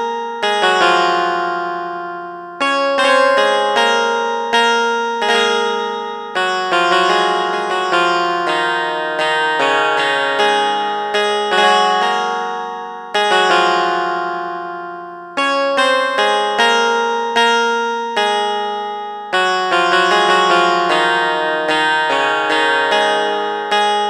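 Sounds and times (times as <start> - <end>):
keyboard notes and chords: 0.0 - 24.0.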